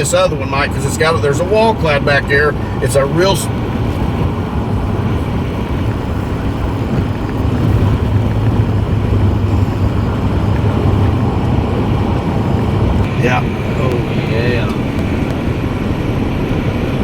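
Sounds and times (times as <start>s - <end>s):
vehicle cabin road and engine noise: 0.0s - 17.0s.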